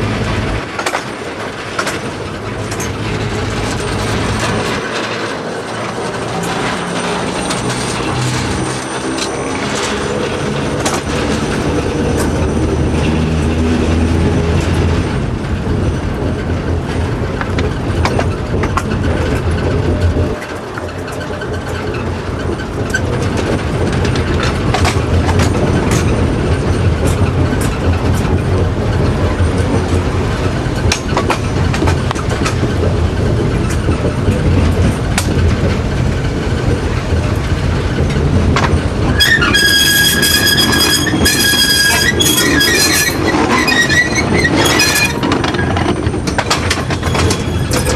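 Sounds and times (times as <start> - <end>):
diesel engine rumble: 0.0 - 47.9
wheels clicking over rail joints: 0.0 - 47.9
wheels on rails: 0.0 - 47.9.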